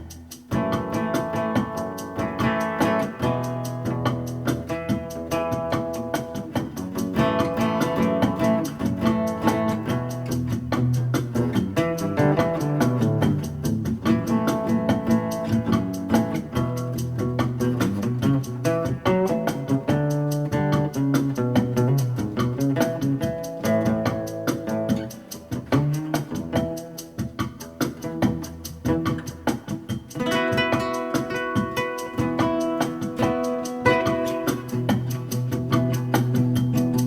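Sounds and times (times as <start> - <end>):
guitar music: 0.0 - 37.0
moving bass line: 0.0 - 37.0.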